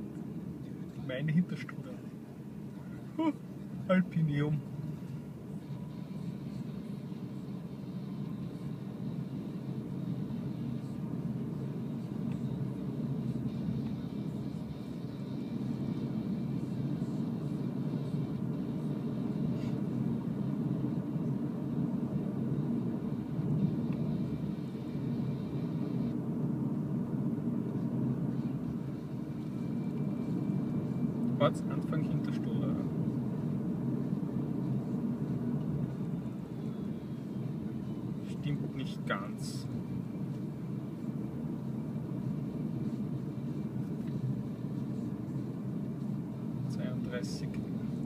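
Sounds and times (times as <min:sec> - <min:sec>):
road and tyre rumble: 0:00.0 - 0:48.0.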